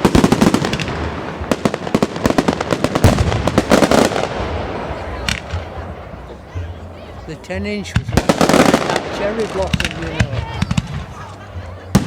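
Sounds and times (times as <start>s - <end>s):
fireworks cracks and bangs: 0.0s - 6.2s, 7.8s - 12.0s.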